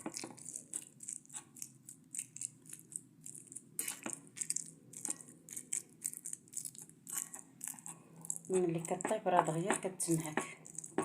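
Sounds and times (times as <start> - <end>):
fork mashing figs: 0.0 - 11.0.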